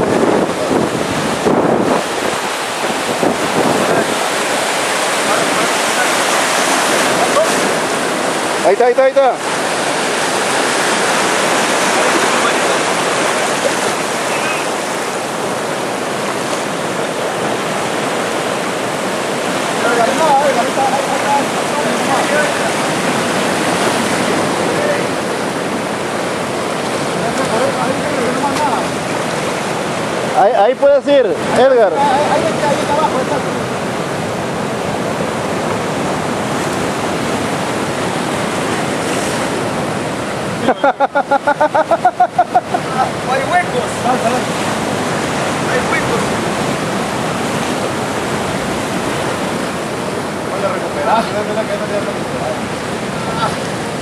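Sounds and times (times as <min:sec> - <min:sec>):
surf washing at the shore: 0:00.0 - 0:54.0.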